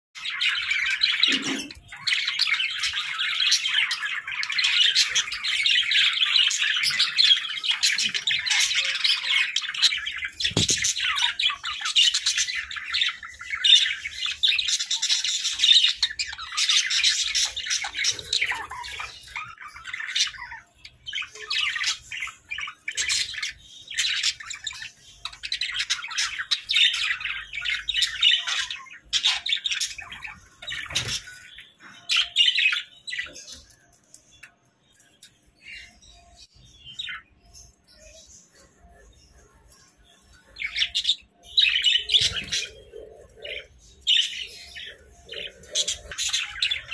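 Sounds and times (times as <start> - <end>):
budgerigars chattering and warbling: 0.2 - 33.8, 35.2 - 46.9.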